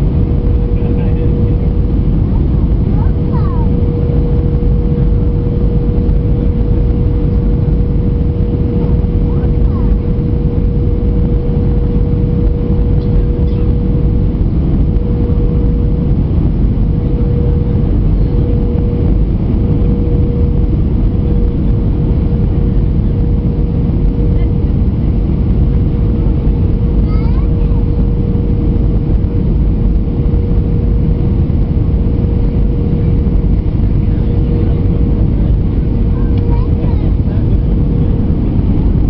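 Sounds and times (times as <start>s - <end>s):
rushing air: 0.0s - 36.3s
humming tone wavering: 0.0s - 39.0s
jet engines roaring: 0.0s - 39.0s.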